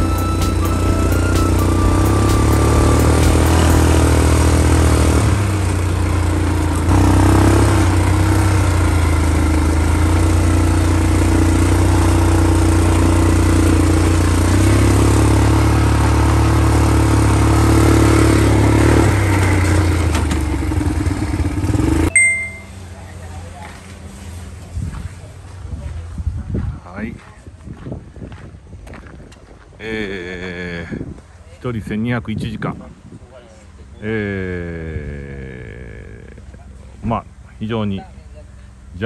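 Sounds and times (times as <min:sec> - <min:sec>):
off-road buggy engine running: 0:00.0 - 0:39.0.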